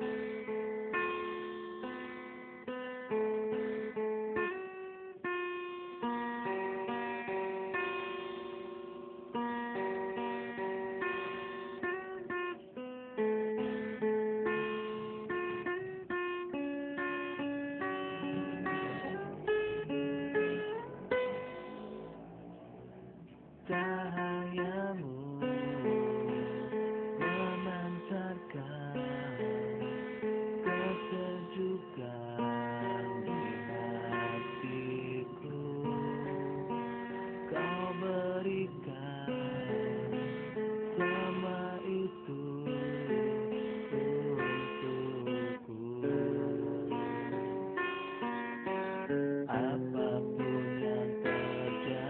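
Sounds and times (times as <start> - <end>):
plucked guitar music: 0.0 - 52.0.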